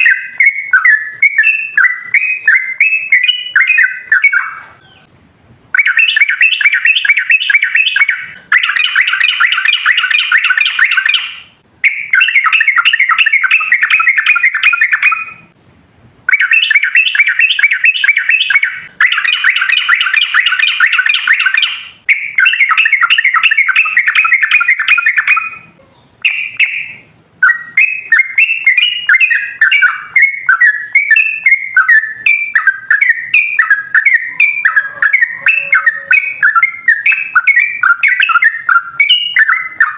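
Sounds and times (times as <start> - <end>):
bulbul singing bubbling song: 0.0 - 5.1, 5.7 - 15.5, 16.3 - 39.9.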